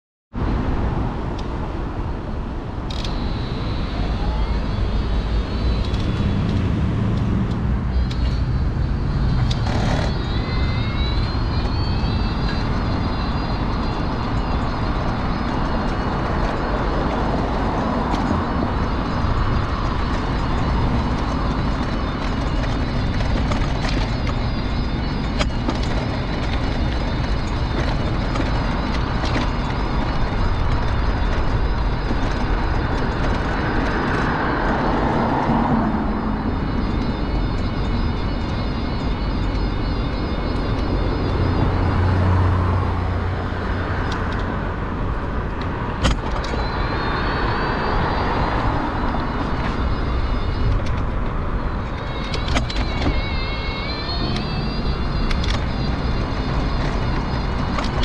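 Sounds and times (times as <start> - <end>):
wheels rumbling on pavement: 0.3 - 58.0
mobility scooter motor whine: 1.4 - 58.0.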